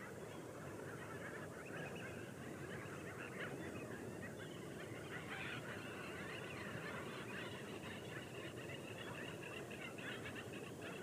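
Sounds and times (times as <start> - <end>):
flock of waterbirds calling: 0.0 - 11.0.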